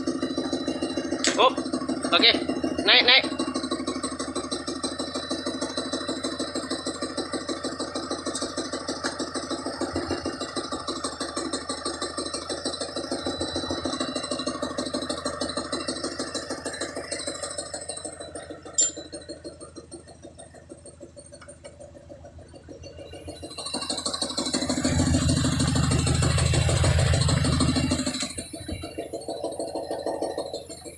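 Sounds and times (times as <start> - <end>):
engine idling: 0.0 - 30.9.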